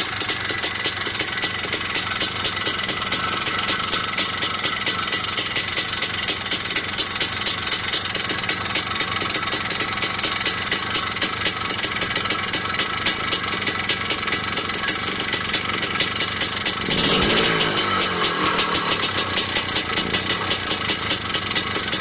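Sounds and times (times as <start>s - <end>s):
engine idling: 0.0s - 22.0s
fast engine knocking: 0.0s - 22.0s.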